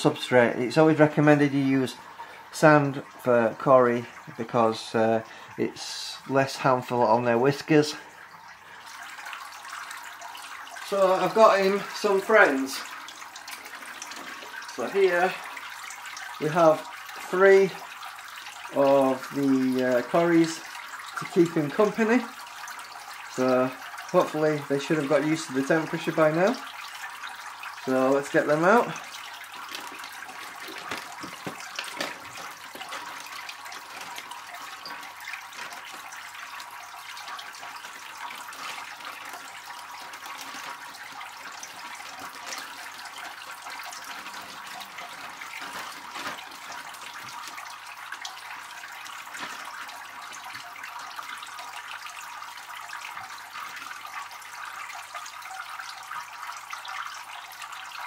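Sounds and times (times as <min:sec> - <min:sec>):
water splashing trickle: 0:00.0 - 0:58.0.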